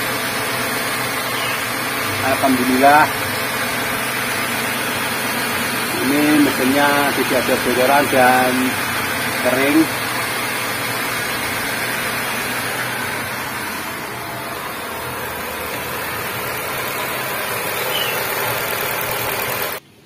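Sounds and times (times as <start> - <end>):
car engine idling: 0.0 - 19.8.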